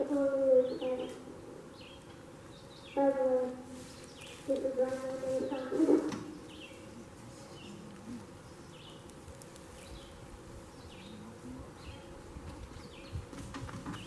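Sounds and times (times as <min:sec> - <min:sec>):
faint steady drone: 0:00.0 - 0:13.1.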